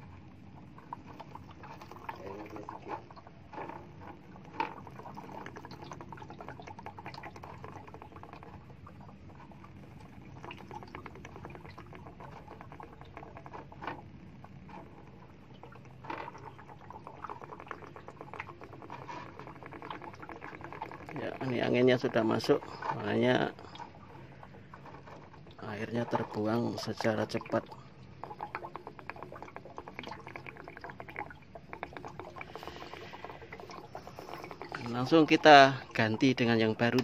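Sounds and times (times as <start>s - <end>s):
water draining from tank: 0.0s - 37.0s.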